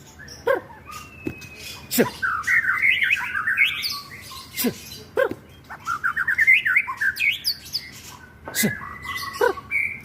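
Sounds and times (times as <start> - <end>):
bird chattering song: 0.0 - 10.0
sharp downward sweeping bird calls: 0.0 - 10.0.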